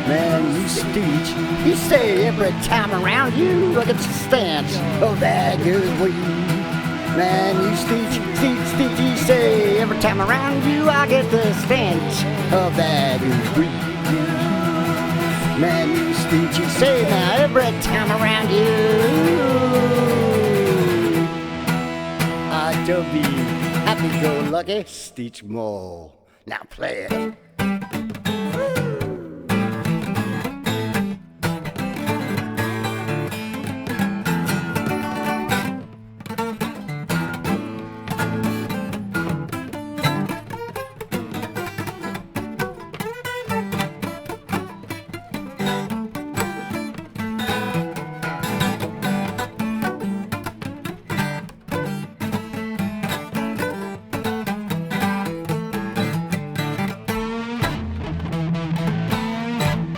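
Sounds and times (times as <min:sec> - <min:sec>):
guitar-led instrumental music: 0:00.0 - 0:24.9, 0:26.8 - 0:59.9.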